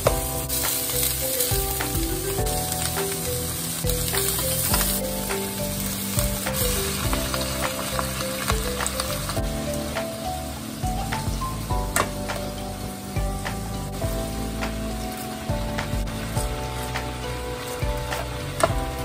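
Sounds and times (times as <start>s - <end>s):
light background music: 0.0s - 19.0s
vegetables sizzling in frying pan: 0.3s - 18.6s.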